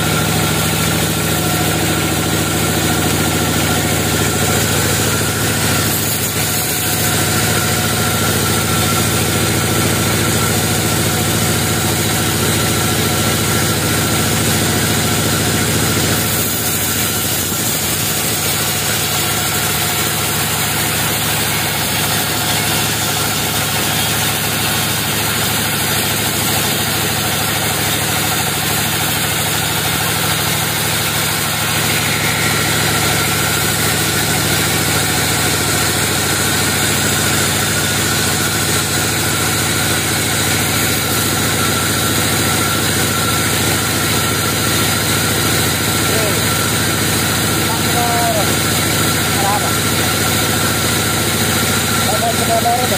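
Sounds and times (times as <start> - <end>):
band sawmill drone: 0.0 - 52.9
blade hissing through log: 0.2 - 52.4.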